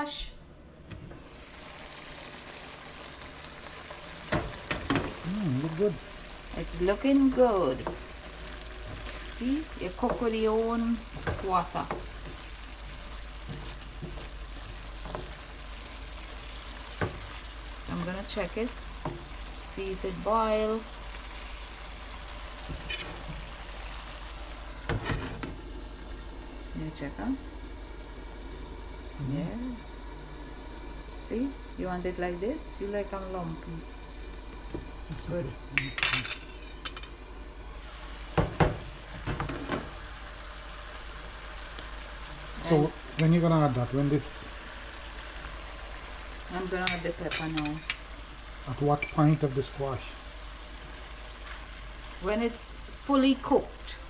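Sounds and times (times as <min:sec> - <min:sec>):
squash sizzling in a pot: 0:01.1 - 0:54.0.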